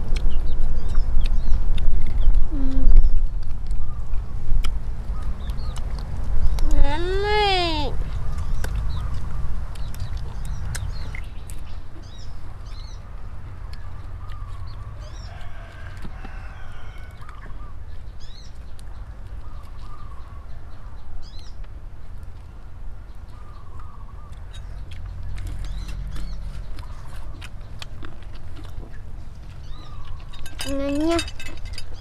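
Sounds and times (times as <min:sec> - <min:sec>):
small birds chirping: 0:00.0 - 0:32.0
wind rumble on microphone: 0:00.0 - 0:32.0.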